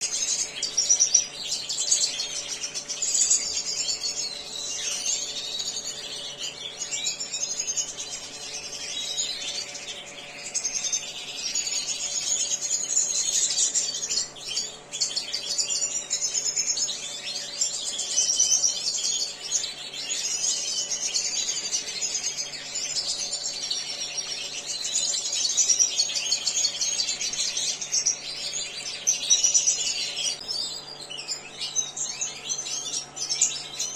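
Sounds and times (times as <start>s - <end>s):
goldfinches twittering: 0.0s - 33.9s.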